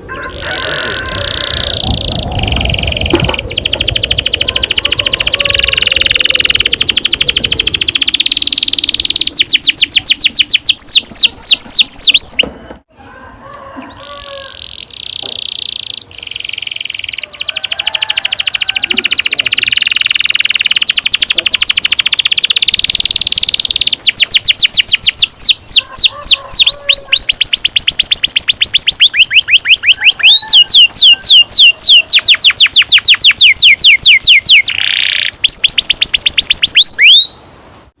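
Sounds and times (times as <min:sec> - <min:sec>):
canary singing trills: 0:00.0 - 0:12.5, 0:13.8 - 0:37.4.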